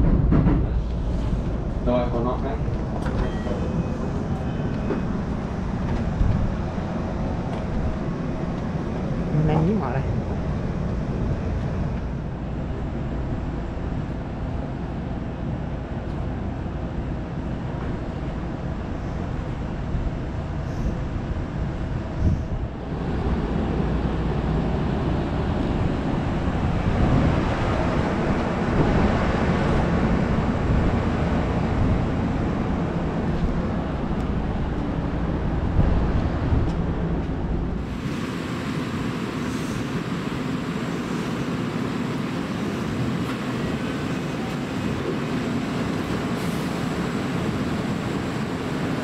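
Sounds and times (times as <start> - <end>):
standing electric train rumble and hiss: 0.0 - 49.0.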